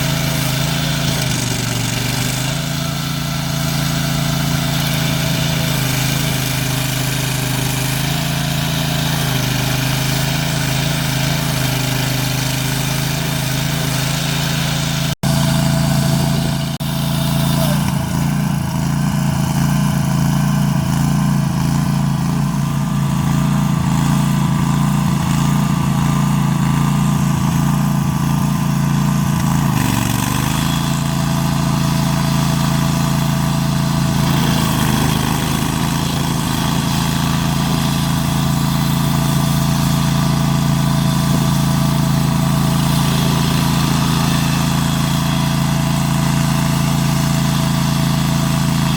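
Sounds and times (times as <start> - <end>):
stump grinder engine running: 0.0 - 48.9.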